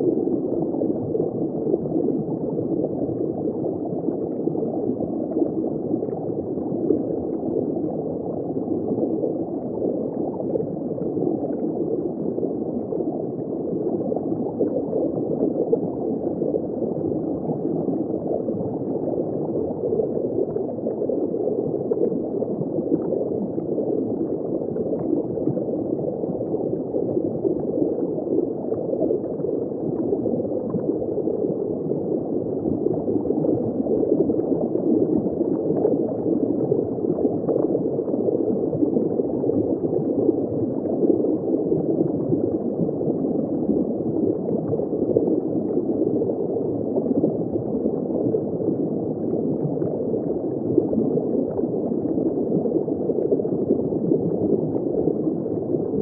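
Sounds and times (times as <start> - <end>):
muffled underwater bubbling: 0.0 - 56.0
small underwater crackles: 0.0 - 56.0.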